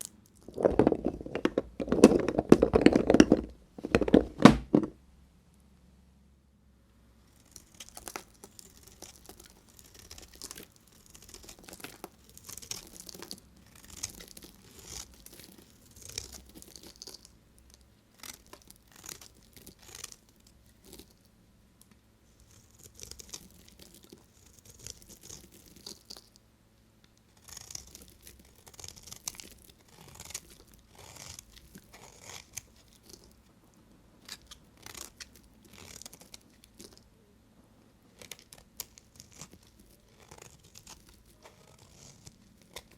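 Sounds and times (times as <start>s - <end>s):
knife crunching through bar soap: 0.4s - 4.9s, 7.4s - 21.2s, 22.4s - 26.4s, 27.3s - 33.4s, 34.2s - 37.1s, 38.1s - 42.9s.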